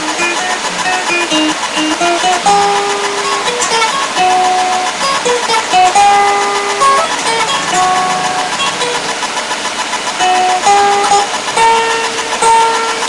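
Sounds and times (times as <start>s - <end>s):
acoustic guitar plucked melody: 0.0s - 13.0s.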